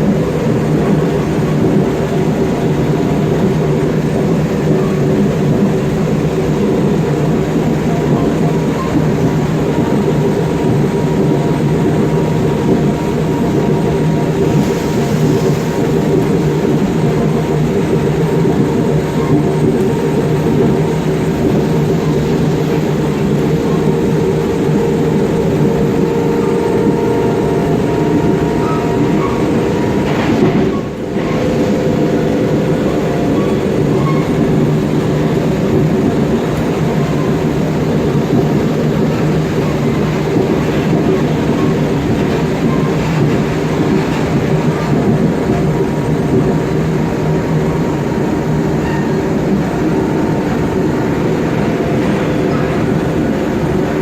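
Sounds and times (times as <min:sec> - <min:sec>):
train traction motors growling: 0:00.0 - 0:54.0
wheels rumbling on rails: 0:00.0 - 0:54.0.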